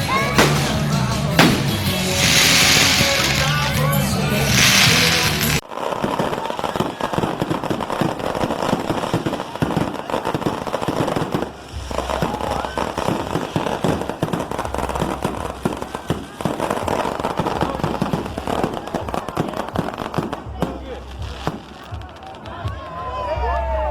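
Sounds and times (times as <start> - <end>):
fireworks bangs and crackles: 0.0 - 23.4.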